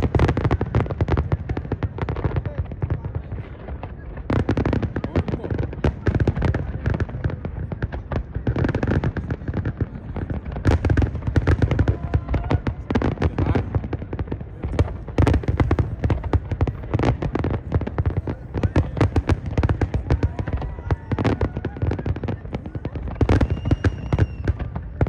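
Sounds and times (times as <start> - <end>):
fireworks cracks and bangs: 0.0 - 25.0.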